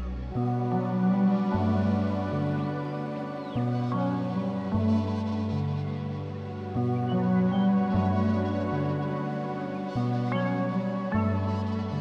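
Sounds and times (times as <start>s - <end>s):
calm ambient music: 0.0s - 12.0s.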